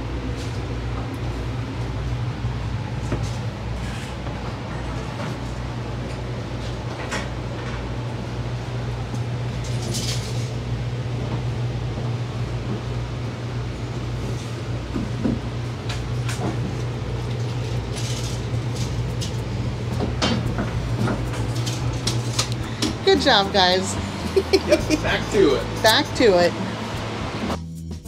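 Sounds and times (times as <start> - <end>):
low mechanical hum of machine: 0.0 - 27.6.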